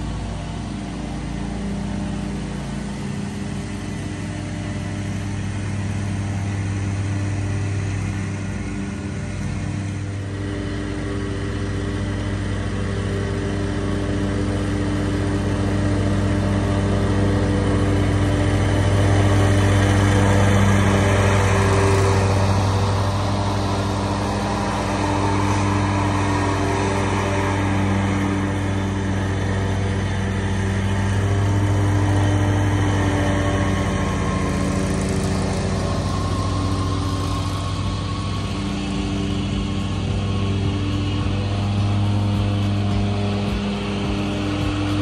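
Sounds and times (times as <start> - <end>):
mower engine humming: 0.0 - 45.0.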